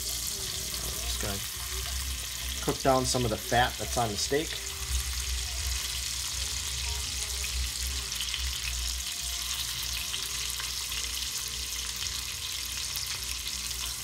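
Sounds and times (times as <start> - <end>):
steak fat sizzling in oil: 0.0 - 14.0.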